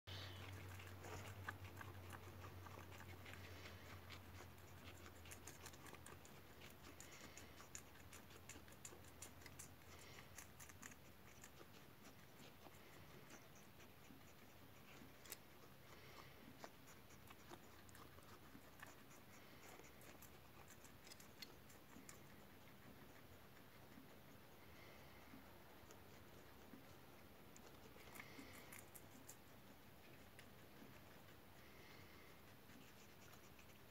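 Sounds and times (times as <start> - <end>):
guinea pig chewing lettuce: 0.1 - 33.9
guinea pig sniffing: 0.1 - 33.9.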